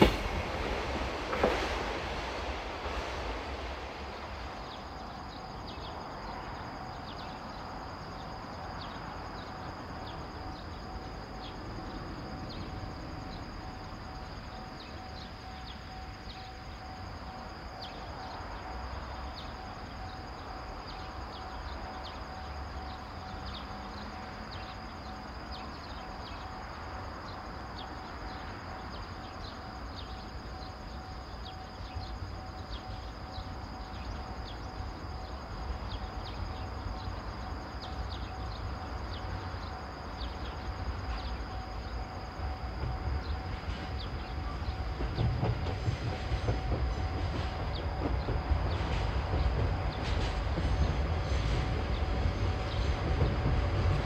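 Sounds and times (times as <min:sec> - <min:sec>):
faint steady tone: 0:00.0 - 0:54.0.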